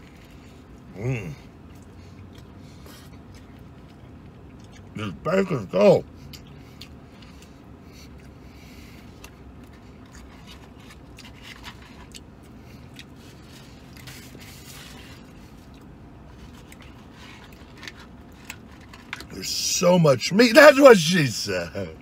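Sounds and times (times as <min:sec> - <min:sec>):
man chewing food: 0:00.0 - 0:05.0, 0:06.2 - 0:19.3.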